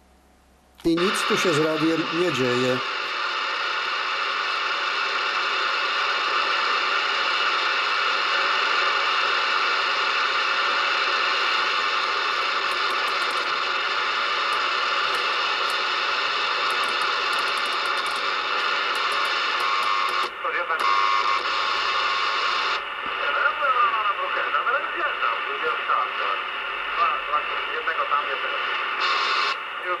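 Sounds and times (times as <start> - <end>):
radio static hiss: 0.8 - 30.0.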